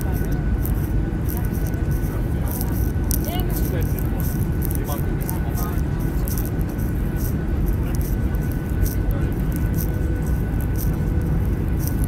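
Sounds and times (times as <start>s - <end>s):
faint steady whine: 0.0s - 12.0s
jet engines roaring: 0.0s - 12.0s.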